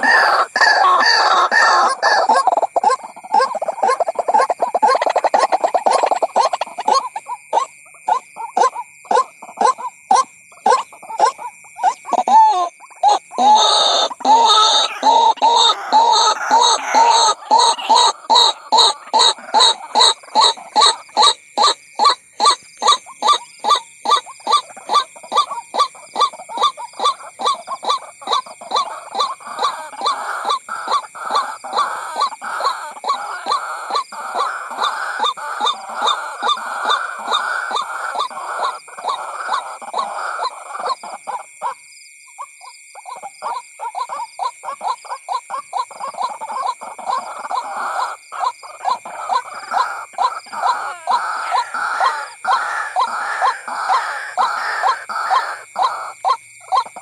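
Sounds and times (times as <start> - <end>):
waterhen calling: 0.0 - 41.8, 43.0 - 57.0.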